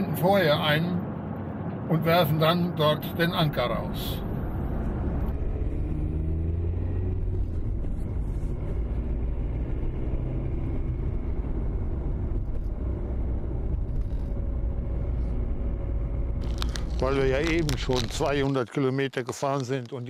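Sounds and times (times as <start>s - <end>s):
van engine and tyre rumble: 0.0s - 20.0s.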